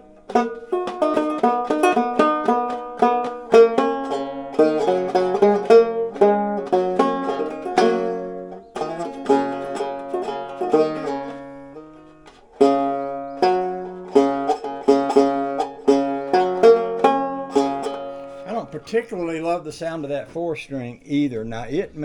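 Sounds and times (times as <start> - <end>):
banjo picking a tune: 0.0 - 20.5.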